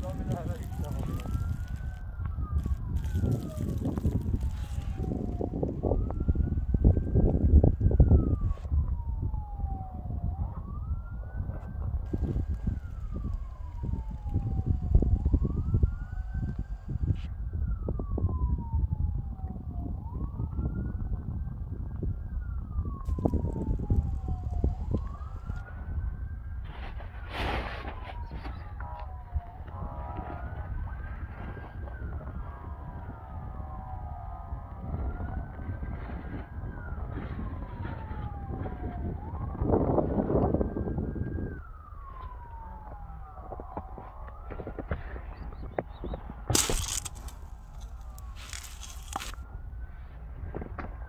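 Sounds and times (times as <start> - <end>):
siren wailing: 0.0 - 51.0
wind buffeting microphone: 0.0 - 51.0.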